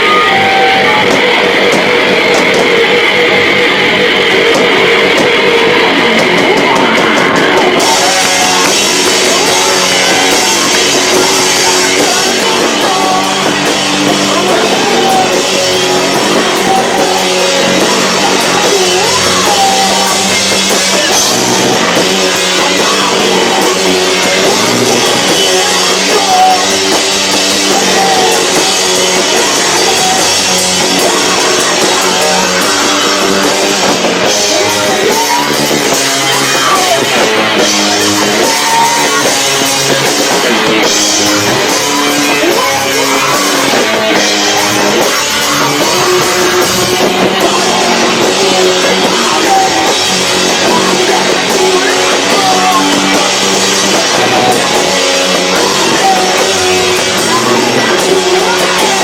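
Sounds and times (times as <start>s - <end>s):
bass guitar: 0.0s - 59.0s
distorted electric guitar: 0.0s - 59.0s
pounding drum kit: 0.0s - 59.0s.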